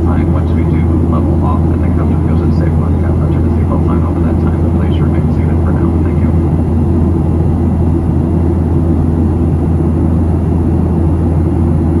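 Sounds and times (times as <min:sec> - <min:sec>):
airplane cabin hum and rumble: 0:00.0 - 0:12.0.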